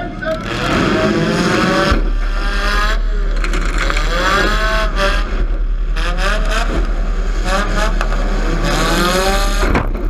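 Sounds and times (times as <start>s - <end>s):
car engines revving: 0.0s - 10.0s
heavy low rumble: 0.0s - 10.0s.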